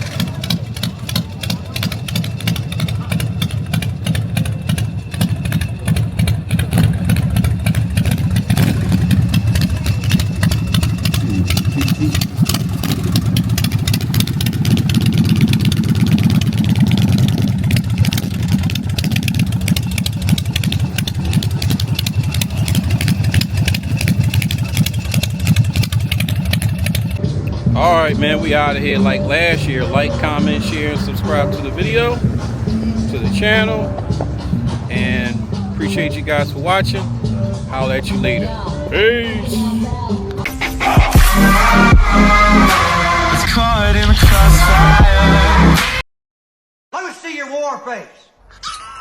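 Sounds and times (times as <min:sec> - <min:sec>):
motorcycle engine idling: 0:00.0 - 0:40.5.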